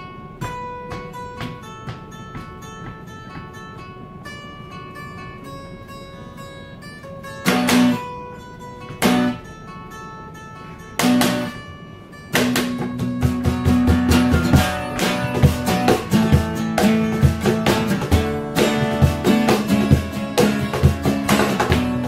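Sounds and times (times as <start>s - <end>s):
cajon beats: 0.0s - 6.5s, 7.2s - 8.2s, 8.8s - 9.6s, 11.0s - 22.0s
acoustic guitars playing: 0.0s - 22.0s.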